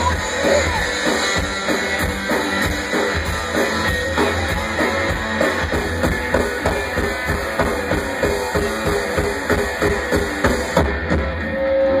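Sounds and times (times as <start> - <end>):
drum kit beat: 0.0 - 11.5
guitar playing: 0.0 - 12.0.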